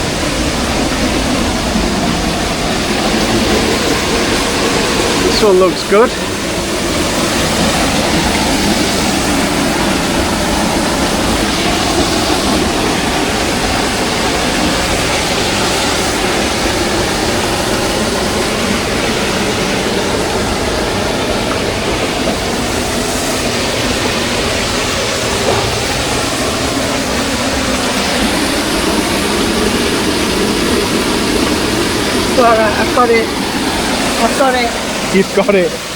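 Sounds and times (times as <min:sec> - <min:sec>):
river and waterfall rushing: 0:00.0 - 0:35.9.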